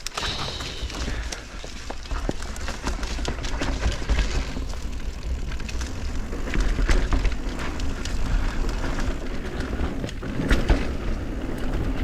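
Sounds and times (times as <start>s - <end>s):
bike clicks and rattles: 0.0s - 12.0s
bike tyres rumbling on dirt: 0.0s - 12.0s.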